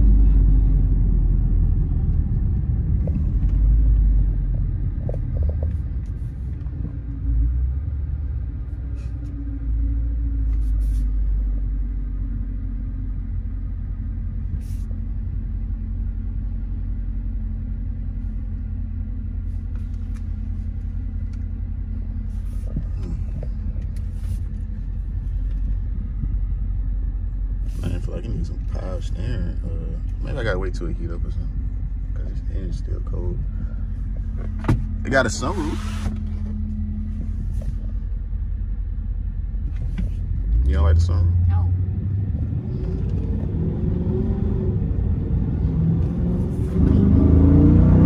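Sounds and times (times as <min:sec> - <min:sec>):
car engine rumble from cabin: 0:00.0 - 0:48.0.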